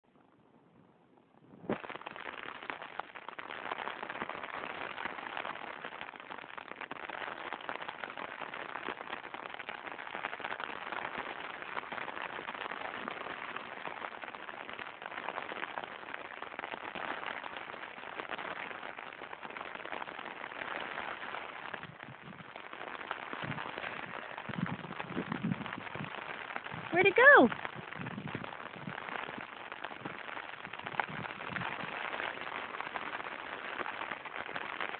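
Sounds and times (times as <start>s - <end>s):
steady rain pattering: 0.0s - 34.9s.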